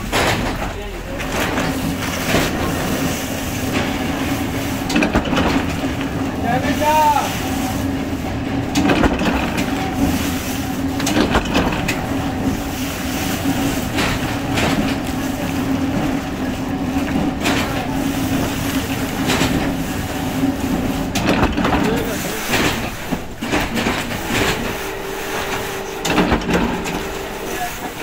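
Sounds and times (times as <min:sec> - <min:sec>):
factory machinery humming: 0:00.0 - 0:28.0
machinery knocks and clatters: 0:00.0 - 0:28.0.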